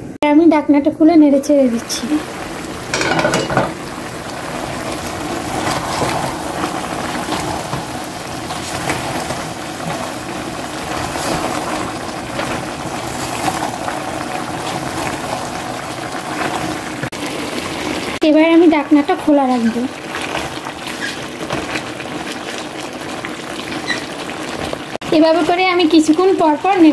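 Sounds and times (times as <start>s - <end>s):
curry sizzling and bubbling: 0.0s - 26.9s.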